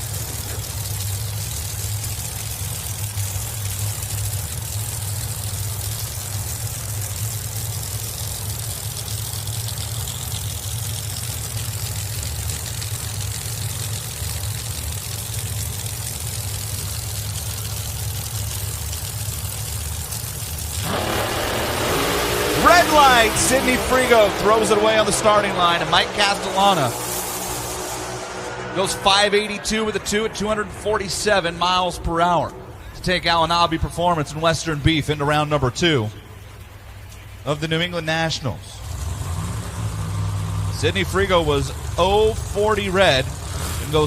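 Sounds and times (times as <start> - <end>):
drag racing engines idling: 0.0 - 44.0.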